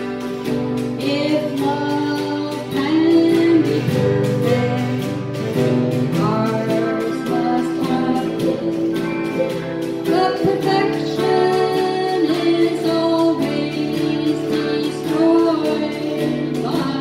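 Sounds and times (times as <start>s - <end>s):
strummed acoustic guitar: 0.0s - 17.0s
woman singing: 0.0s - 17.0s.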